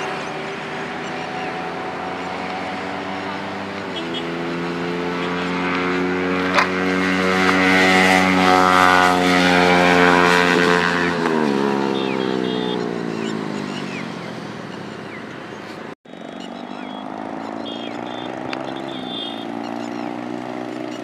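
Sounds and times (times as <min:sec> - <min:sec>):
motorcycle riding past: 0:00.0 - 0:21.0.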